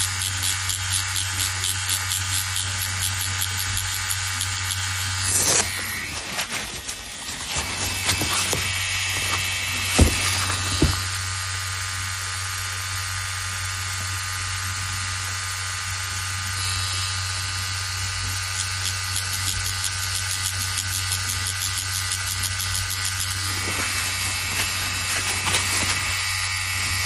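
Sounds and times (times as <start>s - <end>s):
tattoo machine buzzing: 0.0s - 27.0s.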